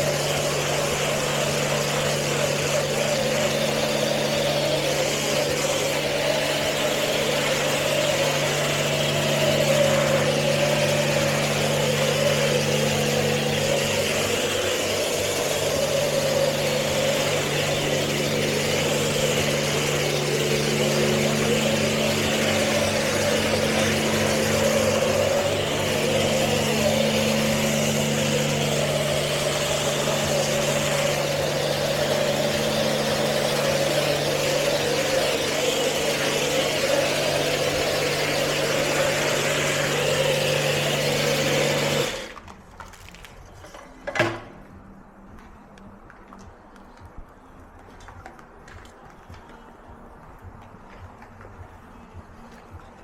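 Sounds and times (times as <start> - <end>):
car engine idling: 0.0 - 42.6
car wash machinery hiss and hum: 0.0 - 53.0.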